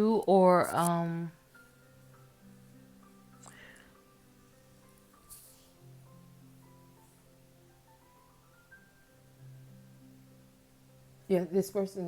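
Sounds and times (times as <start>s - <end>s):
soft mallet-like background music: 0.0s - 12.0s.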